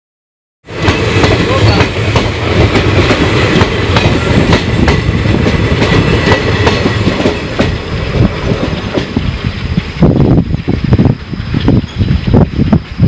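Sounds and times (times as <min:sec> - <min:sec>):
steel wheels rumbling on rail: 0:00.7 - 0:13.0.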